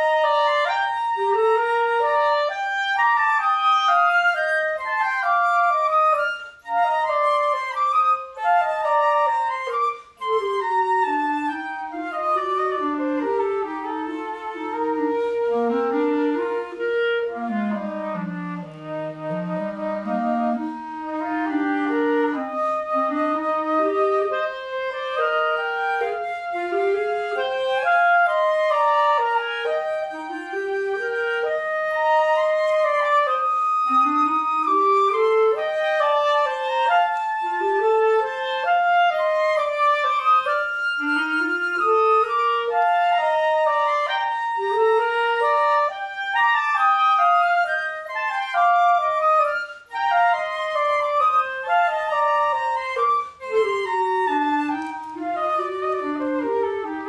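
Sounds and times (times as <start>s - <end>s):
flute and clarinet duet: 0.0s - 57.0s.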